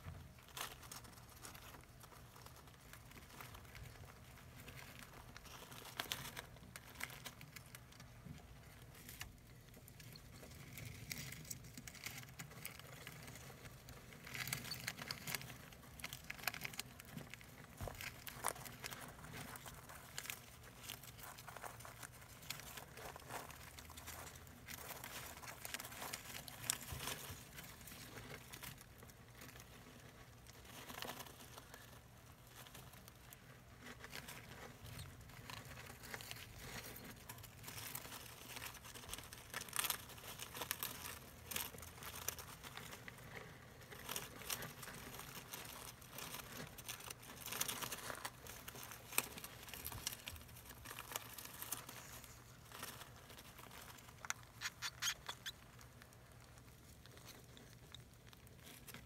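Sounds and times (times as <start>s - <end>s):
small crackles and ticks: 0.0s - 59.0s.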